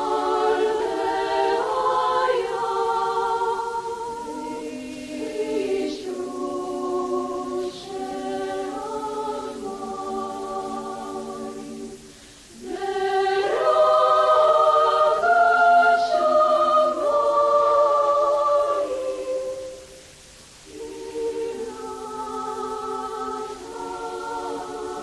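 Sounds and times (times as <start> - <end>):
choir singing unaccompanied: 0.0 - 25.0.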